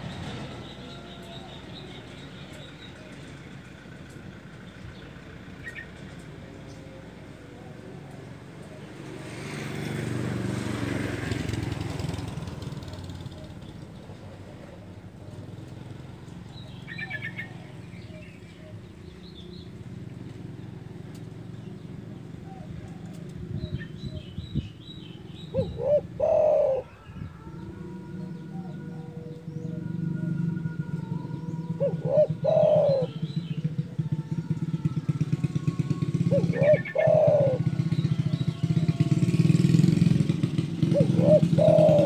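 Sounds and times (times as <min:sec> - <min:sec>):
small birds chirping: 0:00.0 - 0:09.8, 0:12.7 - 0:42.0
dove cooing: 0:06.7 - 0:24.4, 0:25.2 - 0:42.0.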